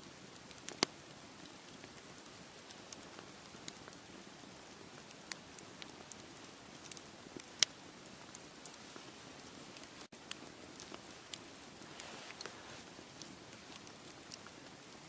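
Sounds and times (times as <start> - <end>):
campfire crackling and popping: 0.0 - 15.0
fire hissing: 0.6 - 15.0.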